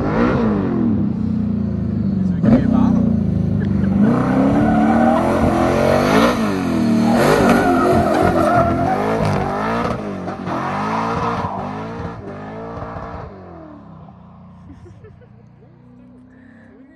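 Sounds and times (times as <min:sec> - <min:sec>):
car engine revving hard: 0:00.0 - 0:13.9.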